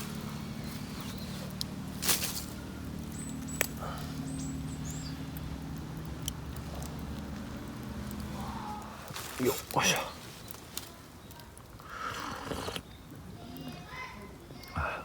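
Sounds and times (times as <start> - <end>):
campfire crackling pops: 0.0 - 14.8.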